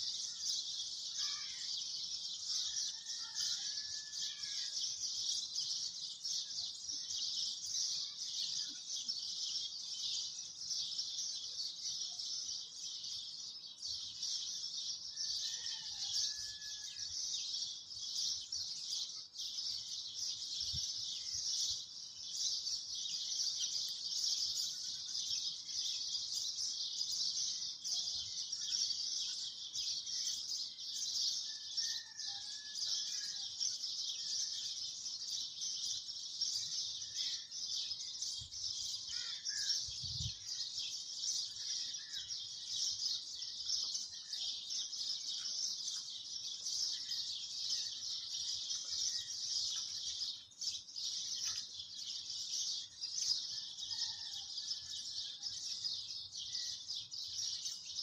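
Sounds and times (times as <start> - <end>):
chorus of chirping birds: 0.0 - 58.0.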